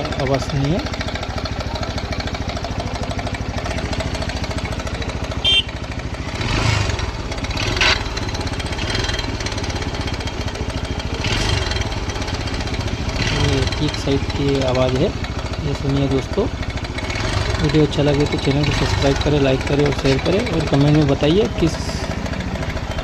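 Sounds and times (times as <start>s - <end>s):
abnormal mechanical engine noise: 0.0s - 23.0s
motorcycle engine idling: 0.0s - 23.0s.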